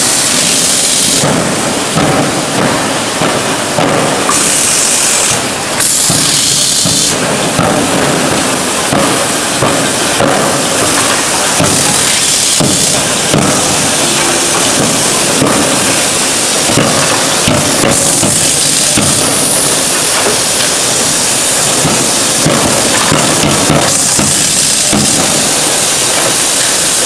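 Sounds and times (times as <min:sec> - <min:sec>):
loud hissing: 0:00.0 - 0:27.0.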